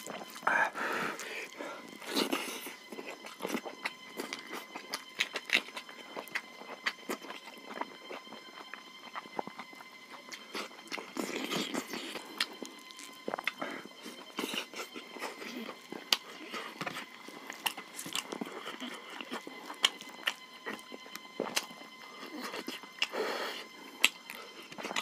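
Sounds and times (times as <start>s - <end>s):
close chewing of food: 0.0s - 25.0s
small crunches: 1.6s - 25.0s.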